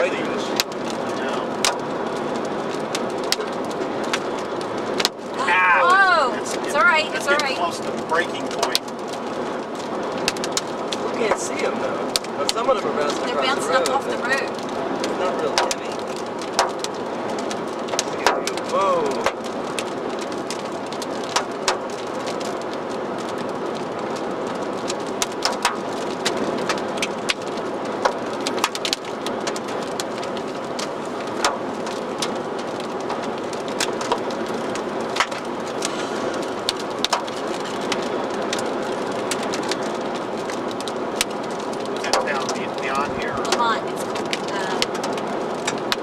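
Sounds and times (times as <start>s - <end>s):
hailstones striking car: 0.0s - 46.0s
road and wind noise in car: 0.0s - 46.0s.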